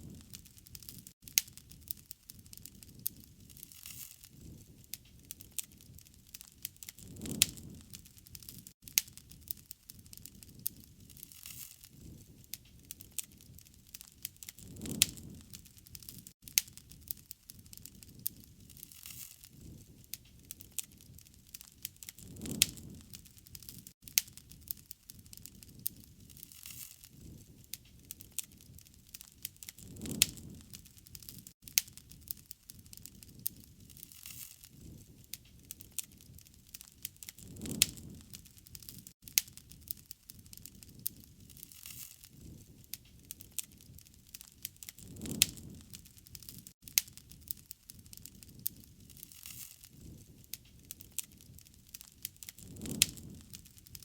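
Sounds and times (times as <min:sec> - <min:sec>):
low rush of flame: 0:00.0 - 0:54.0
wood fire crackling: 0:00.0 - 0:54.0.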